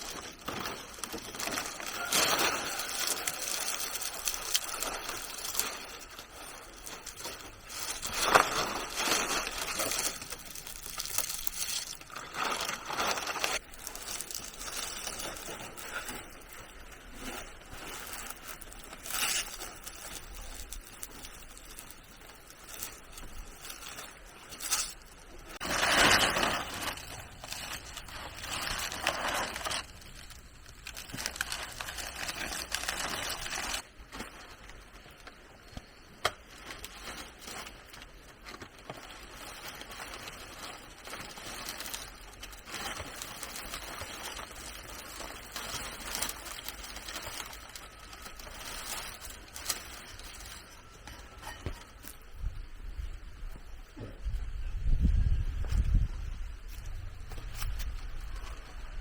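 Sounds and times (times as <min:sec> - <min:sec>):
scraping and rustling handling noise: 0:00.0 - 0:54.8, 0:55.4 - 0:59.0.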